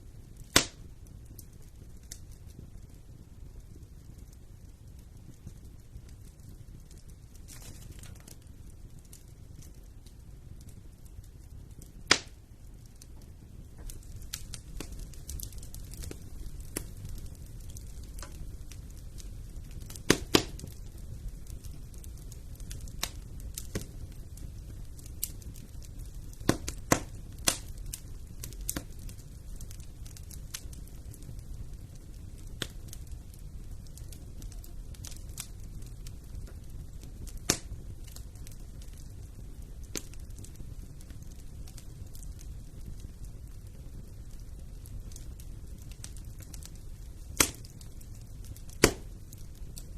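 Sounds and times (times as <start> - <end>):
fire crackling and popping: 0.0 - 49.9
fire rumbling: 0.0 - 49.9.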